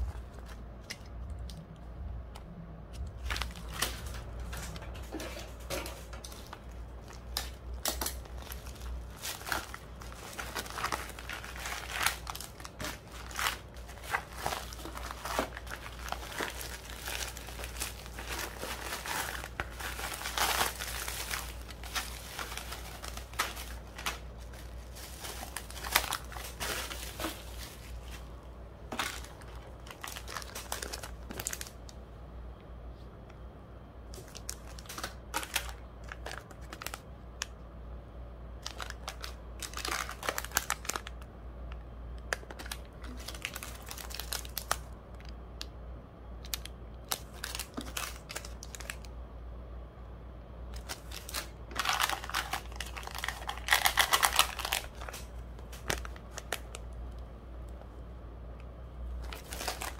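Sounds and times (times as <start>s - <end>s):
plastic packaging crinkling: 2.9s - 32.0s, 34.1s - 37.6s, 38.6s - 41.3s, 42.2s - 45.7s, 46.4s - 49.2s, 50.7s - 57.2s, 59.1s - 59.9s.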